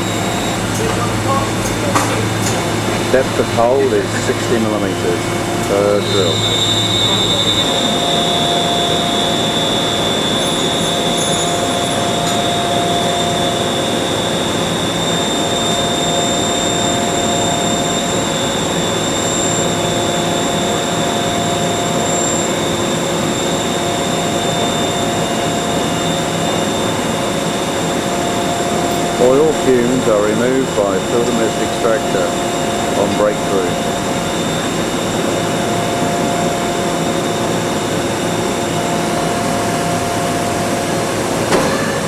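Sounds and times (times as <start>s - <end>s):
drilling machine hissing and whining: 0.0s - 42.0s.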